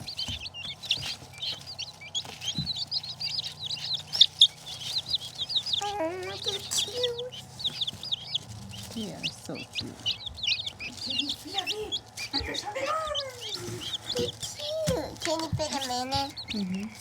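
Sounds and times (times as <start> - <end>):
baby chicks peeping: 0.0 - 17.0.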